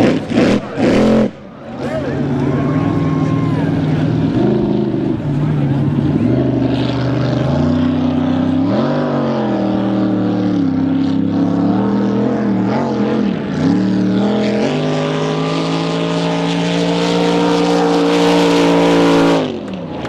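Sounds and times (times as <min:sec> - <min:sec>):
boat engine throttle blips: 0:00.0 - 0:20.0.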